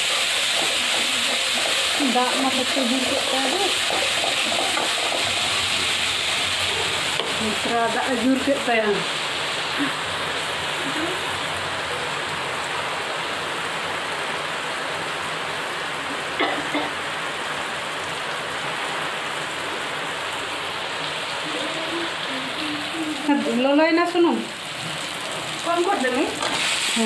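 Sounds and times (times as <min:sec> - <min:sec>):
steady rain pouring: 0:00.0 - 0:27.0.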